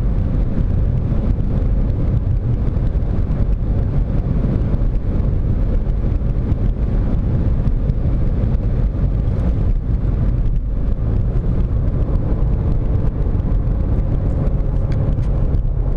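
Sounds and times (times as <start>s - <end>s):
car engine and road noise: 0.0s - 15.9s
crackling rattle from car: 0.0s - 15.9s.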